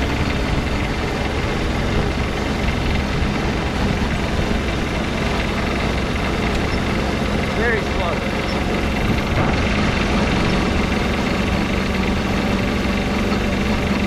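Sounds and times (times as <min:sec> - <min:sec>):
small diesel engine running: 0:00.0 - 0:14.0.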